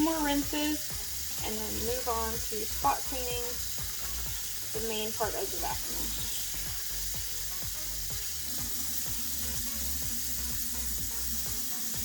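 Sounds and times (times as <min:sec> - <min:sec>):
pop music with steady beat: 0:00.0 - 0:12.0
tap water running: 0:00.0 - 0:12.0.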